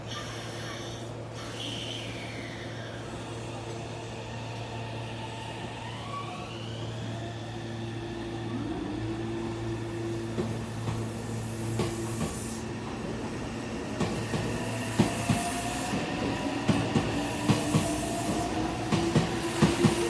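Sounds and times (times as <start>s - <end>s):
electric train motor whine: 3.8s - 20.0s.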